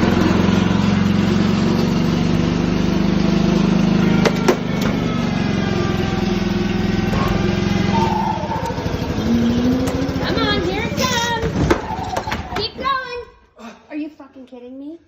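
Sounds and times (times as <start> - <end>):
small engine running: 0.0 - 12.4.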